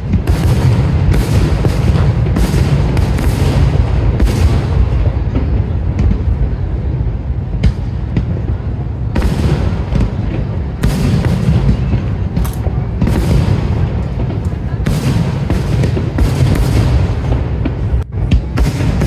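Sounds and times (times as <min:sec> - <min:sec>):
fireworks booming: 0:00.0 - 0:19.0
fireworks cracking and crackling: 0:00.0 - 0:19.0.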